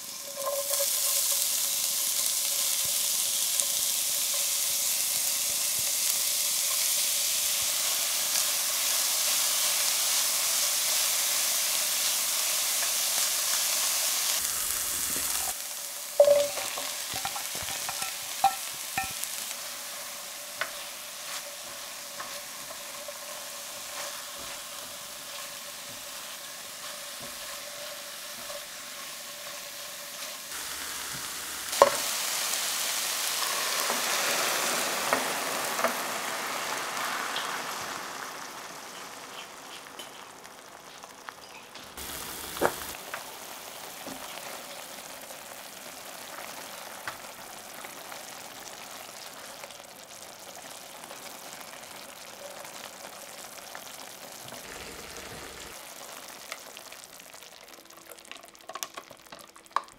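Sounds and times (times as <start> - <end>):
wine hissing in hot pan: 0.0 - 58.0
food sizzling in a pan: 0.0 - 59.9.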